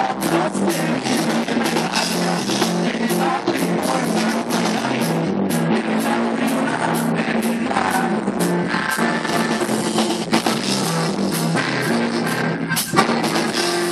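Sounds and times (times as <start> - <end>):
drum kit beat: 0.0 - 13.9
electric bass line: 0.0 - 13.9
person singing: 0.0 - 13.9.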